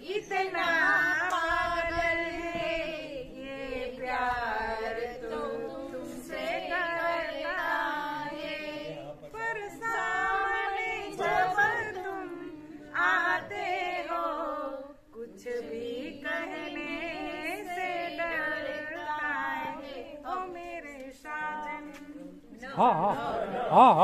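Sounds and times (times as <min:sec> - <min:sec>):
women singing unaccompanied: 0:00.0 - 0:23.6.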